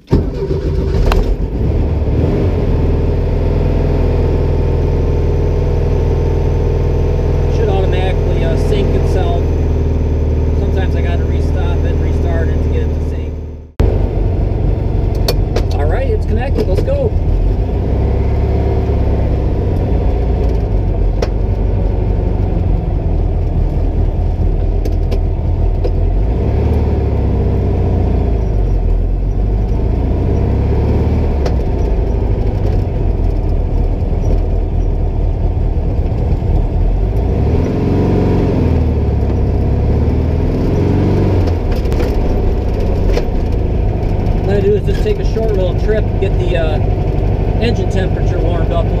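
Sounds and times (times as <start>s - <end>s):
car engine running from inside cabin: 0.0s - 49.0s.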